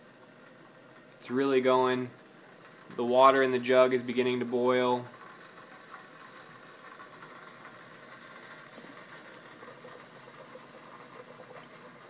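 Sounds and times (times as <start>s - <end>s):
water bubbling in glass jug: 0.0s - 12.0s.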